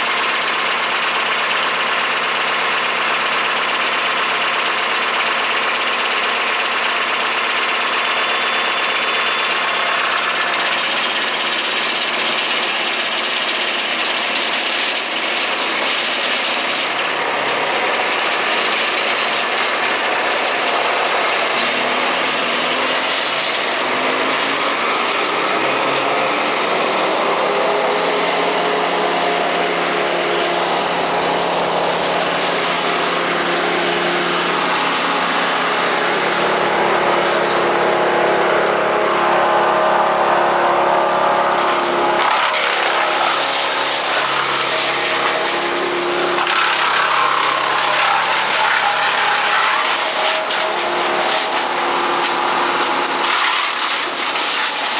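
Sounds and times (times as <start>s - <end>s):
brush chipper engine running: 0.0s - 54.9s.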